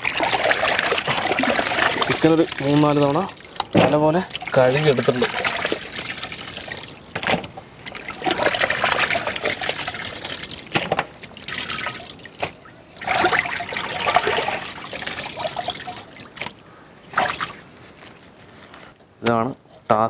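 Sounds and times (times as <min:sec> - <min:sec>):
water splashing and trickling: 0:00.0 - 0:18.3.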